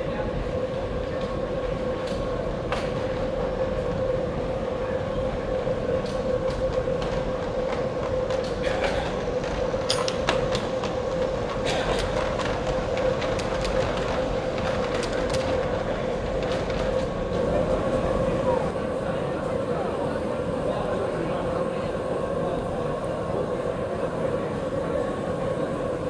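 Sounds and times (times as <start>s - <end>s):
model tram motor hum: 0.0s - 26.0s.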